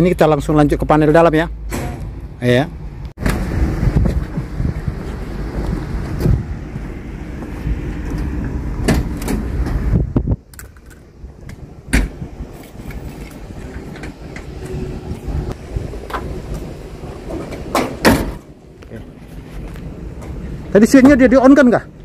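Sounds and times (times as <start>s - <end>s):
wind buffeting microphone: 2.0s - 22.0s.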